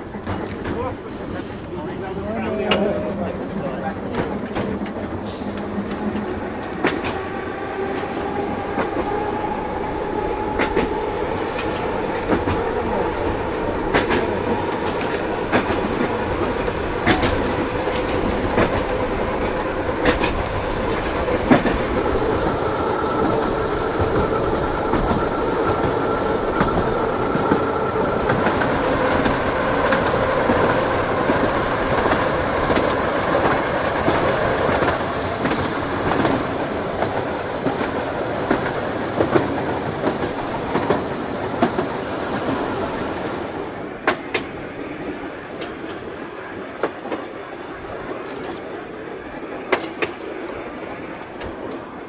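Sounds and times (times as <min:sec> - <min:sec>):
wheels clicking over rail joints: 0:00.0 - 0:01.8, 0:02.4 - 0:43.0, 0:43.6 - 0:52.0
tram motor whine: 0:00.0 - 0:52.0
tram rumbling: 0:00.0 - 0:52.0.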